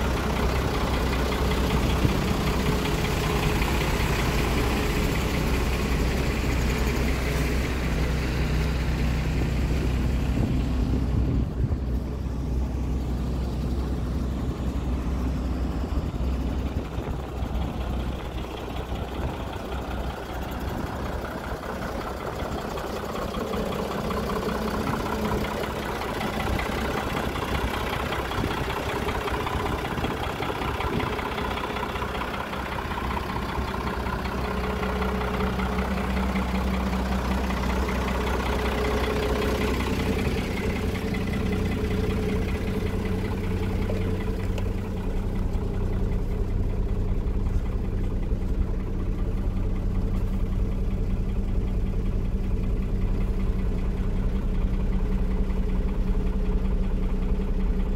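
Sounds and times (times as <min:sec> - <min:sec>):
truck diesel engine idling: 0:00.0 - 0:57.9.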